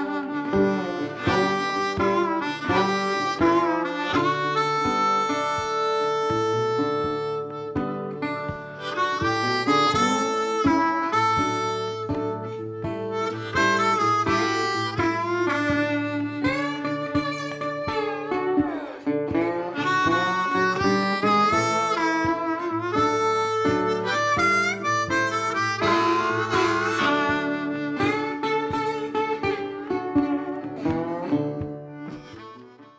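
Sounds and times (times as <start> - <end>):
guitar: 0.0 - 32.9
harmonica lead: 0.0 - 32.9.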